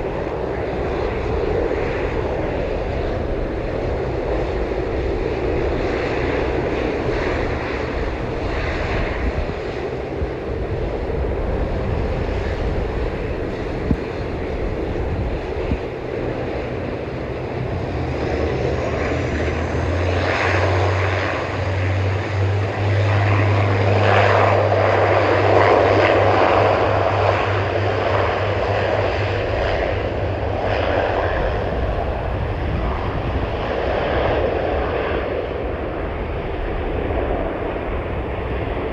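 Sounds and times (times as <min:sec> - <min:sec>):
airplane engines humming: 0:00.0 - 0:38.9.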